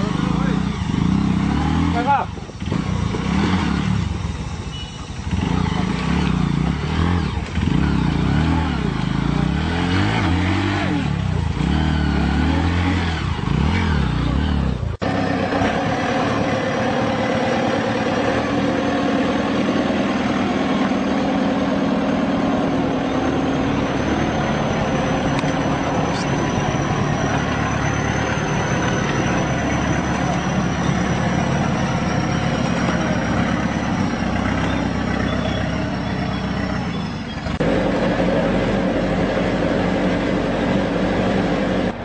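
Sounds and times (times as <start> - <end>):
tractor engine revving: 0.0 - 42.0.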